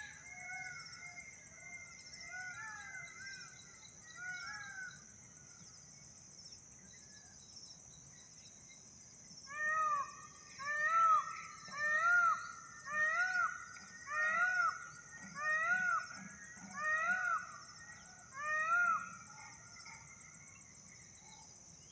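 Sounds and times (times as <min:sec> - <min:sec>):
high insect drone: 0:00.0 - 0:21.9.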